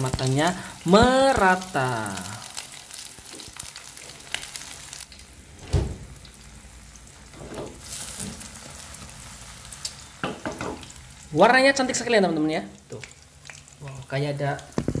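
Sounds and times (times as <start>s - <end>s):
mixture sizzling in oil: 0.0s - 5.3s, 6.2s - 15.0s.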